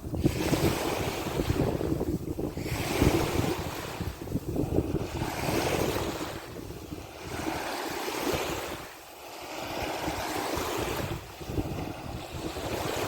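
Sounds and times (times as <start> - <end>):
rushing sea water: 0.0 - 13.0
wind buffeting microphone: 0.0 - 13.0.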